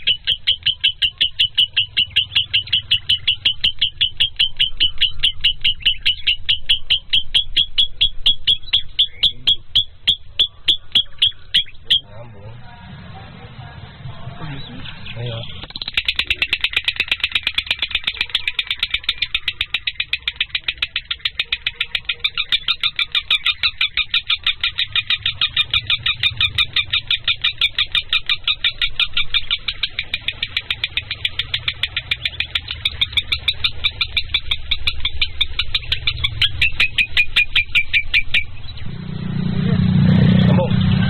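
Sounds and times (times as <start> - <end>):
bird chirping high: 0.0 - 12.6, 14.2 - 41.0.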